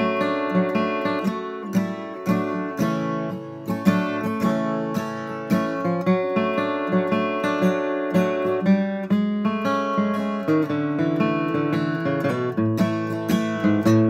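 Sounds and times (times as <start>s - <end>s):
acoustic guitar flatpicked: 0.0s - 14.0s.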